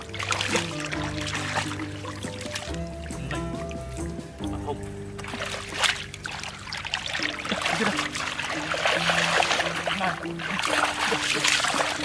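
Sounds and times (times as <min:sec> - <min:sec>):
melody of held notes: 0:00.0 - 0:12.0
water splashing and trickling: 0:00.0 - 0:12.0.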